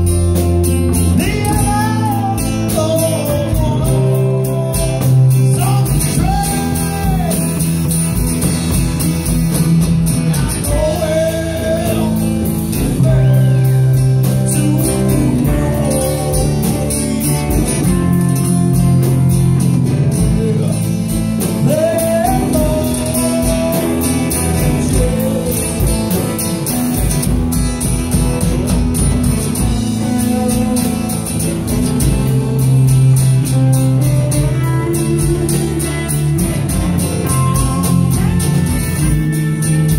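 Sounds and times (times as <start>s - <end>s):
bass guitar: 0.0s - 39.9s
drum kit: 0.0s - 39.9s
electric guitars: 0.0s - 39.9s
person singing: 0.9s - 7.8s, 10.2s - 26.7s, 29.8s - 39.9s.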